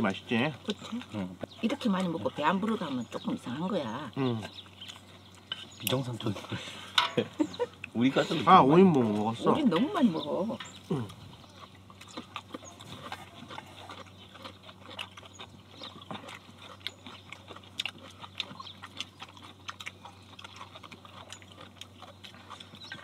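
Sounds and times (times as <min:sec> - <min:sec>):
chewing and mouth noises: 0:00.0 - 0:23.0.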